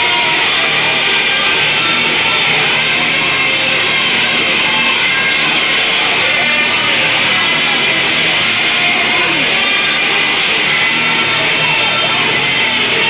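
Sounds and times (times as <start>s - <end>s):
loud rock music with electric guitar: 0.0s - 13.0s.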